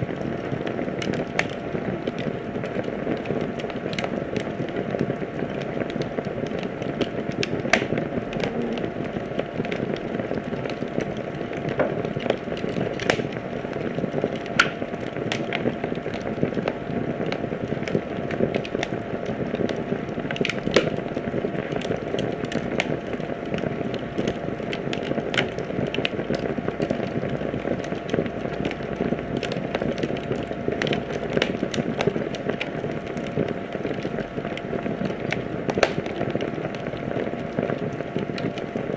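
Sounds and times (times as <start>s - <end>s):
fire crackles and pops: 0.0s - 38.9s.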